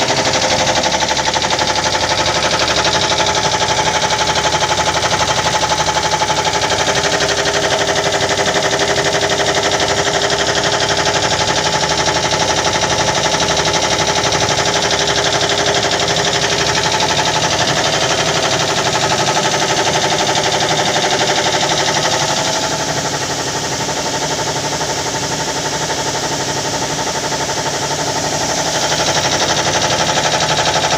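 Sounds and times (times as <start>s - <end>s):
air compressor running: 0.0s - 30.9s.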